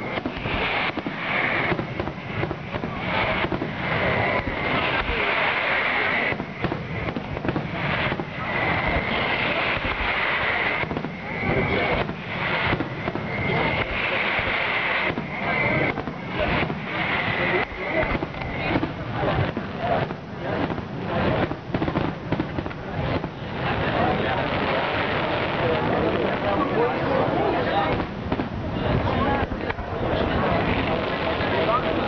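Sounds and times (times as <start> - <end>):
fireworks shells bursting: 0.0 - 25.8
fireworks crackling: 0.0 - 32.0.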